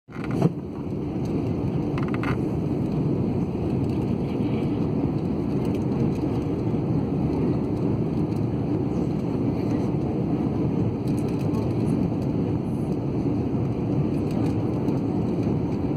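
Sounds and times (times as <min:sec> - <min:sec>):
airliner cabin noise: 0:00.1 - 0:15.9.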